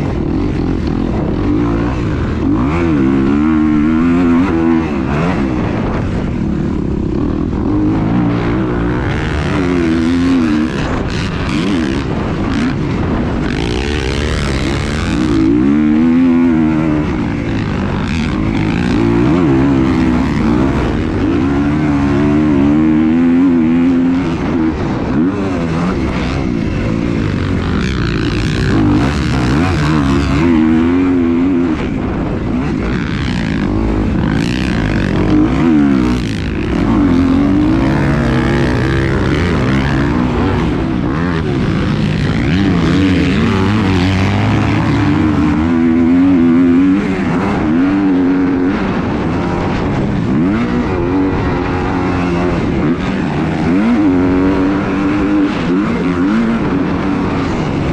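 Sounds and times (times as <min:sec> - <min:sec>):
vehicle engine revving: 0:00.0 - 0:57.9.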